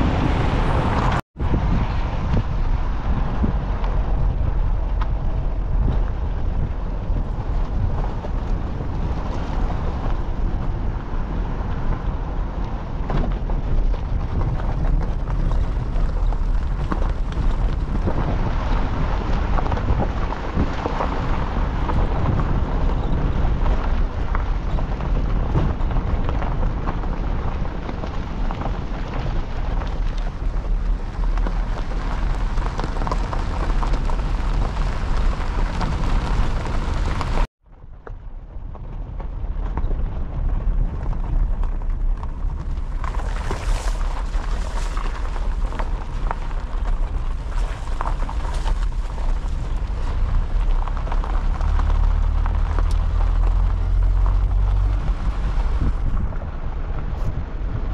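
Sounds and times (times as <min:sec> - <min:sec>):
tyres rumbling on gravel: 0:00.0 - 0:57.9
vehicle engine: 0:00.0 - 0:57.9.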